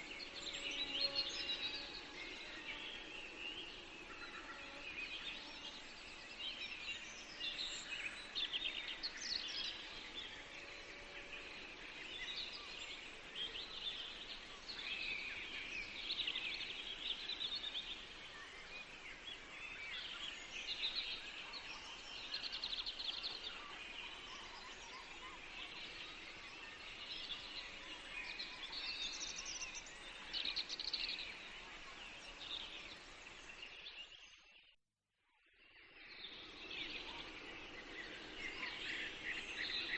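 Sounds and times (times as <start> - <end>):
songbirds singing and chirping: 0.0 - 34.8, 35.4 - 39.9.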